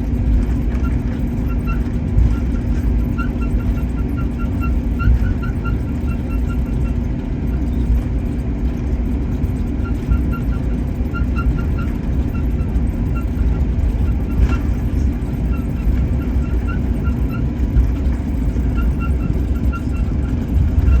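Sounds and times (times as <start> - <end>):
low aircraft cabin rumble: 0.0 - 21.0.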